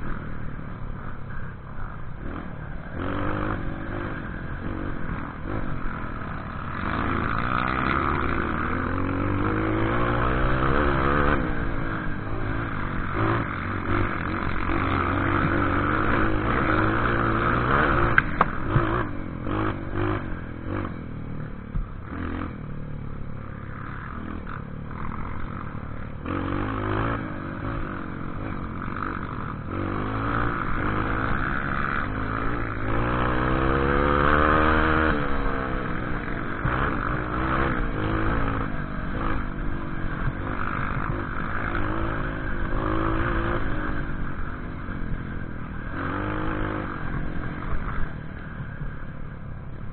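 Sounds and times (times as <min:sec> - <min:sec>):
off-road vehicle engine revving: 0:01.0 - 0:49.0.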